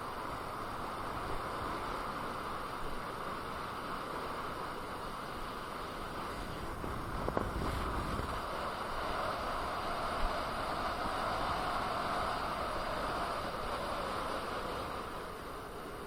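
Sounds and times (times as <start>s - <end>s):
tyre and wind noise: 0.0s - 16.0s.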